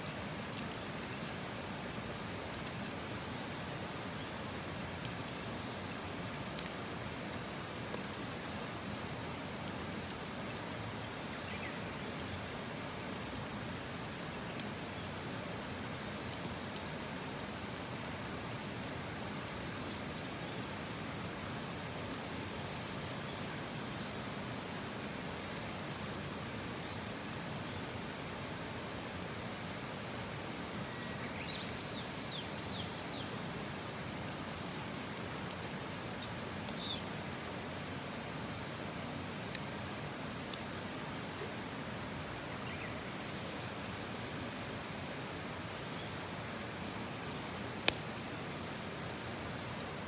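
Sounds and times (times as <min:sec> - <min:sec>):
campfire burning: 0:00.0 - 0:50.0.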